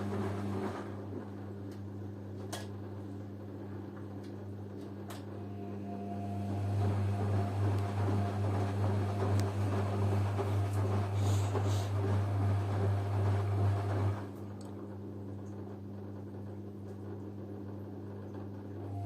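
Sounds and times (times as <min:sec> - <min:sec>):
washing machine churning: 0:00.0 - 0:19.0
washing machine humming: 0:00.0 - 0:19.0.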